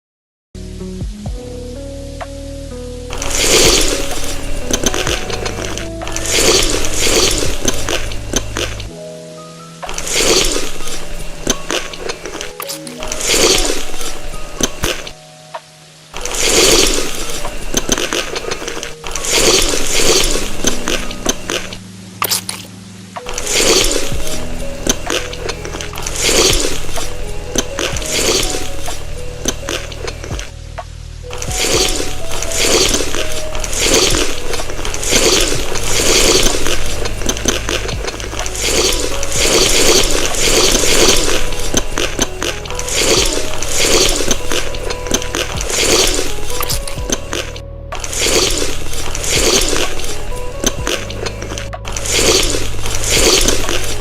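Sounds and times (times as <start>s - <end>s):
light background music: 0.6s - 54.0s.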